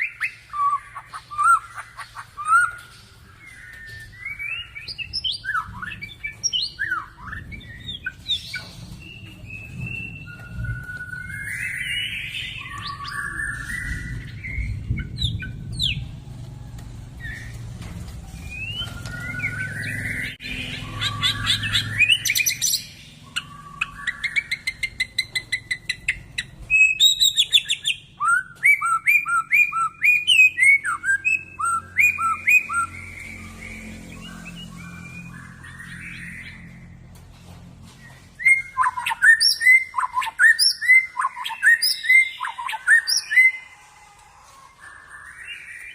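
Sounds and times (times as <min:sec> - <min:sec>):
bird singing whistles and trills: 0:00.0 - 0:16.1, 0:18.3 - 0:36.8, 0:38.0 - 0:43.7.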